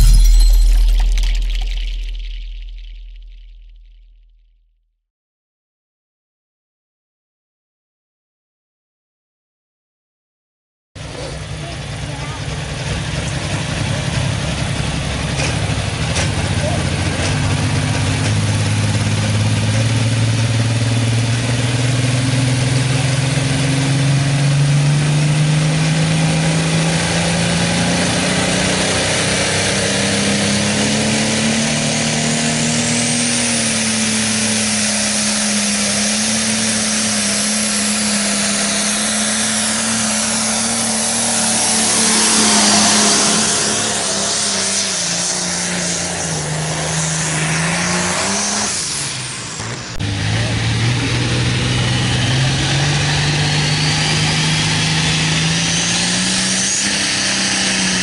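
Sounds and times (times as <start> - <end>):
tractor engine under load: 11.0 - 58.0.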